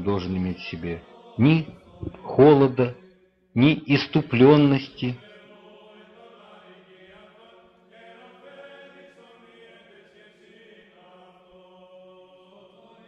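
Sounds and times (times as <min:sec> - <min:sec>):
faint choral chant: 0:00.0 - 0:13.0.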